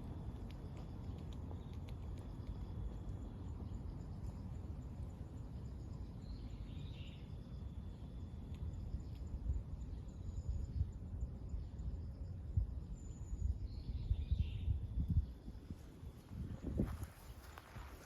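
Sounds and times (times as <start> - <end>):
steady low rumble: 0.0 - 18.0
faint chirp: 1.0 - 15.6.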